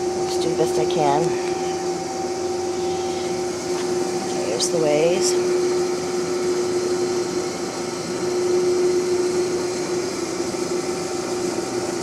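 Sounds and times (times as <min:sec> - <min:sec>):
droning mechanical hum: 0:00.0 - 0:12.0.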